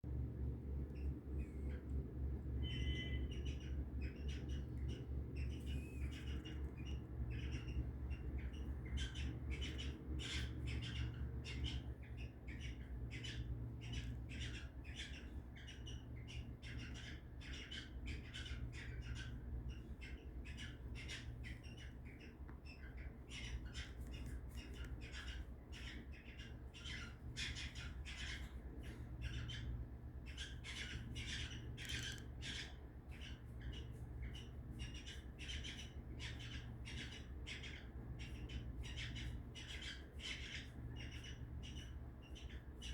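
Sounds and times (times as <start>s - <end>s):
steady low hum: 0.0s - 42.9s
cockatiels squawking and chirping: 2.6s - 42.9s.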